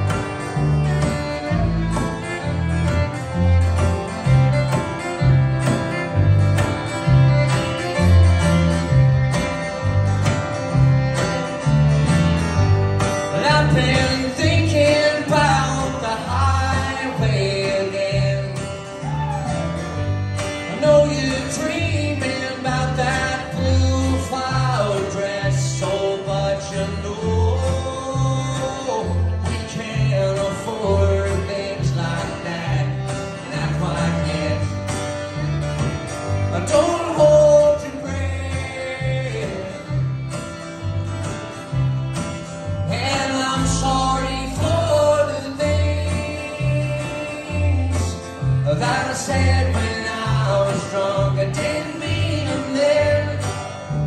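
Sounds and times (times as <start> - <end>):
acoustic country band playing: 0.0 - 54.0
fiddle melody: 0.0 - 54.0
upright bass thumping: 0.0 - 54.0.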